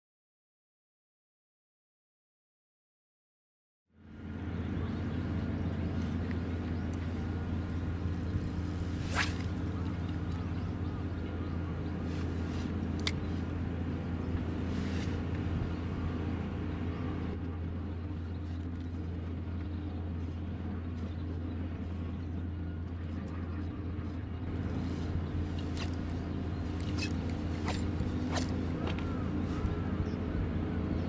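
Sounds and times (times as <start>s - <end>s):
engine idling: 4.0s - 31.0s.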